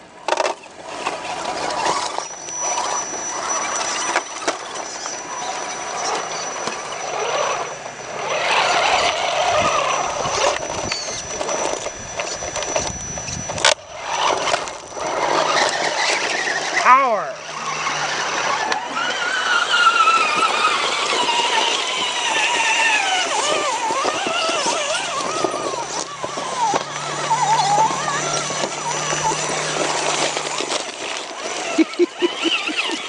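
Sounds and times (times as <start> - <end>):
rc car motor and gears whining: 0.0 - 33.0
thin steady high whine: 0.0 - 33.0.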